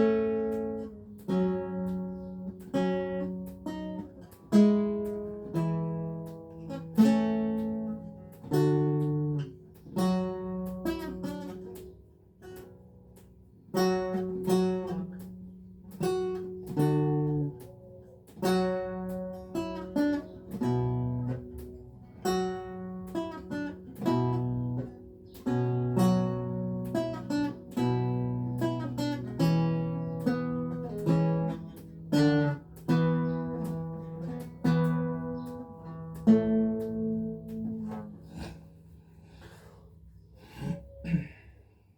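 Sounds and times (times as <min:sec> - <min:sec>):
lute plucked notes and chords: 0:00.0 - 0:38.9.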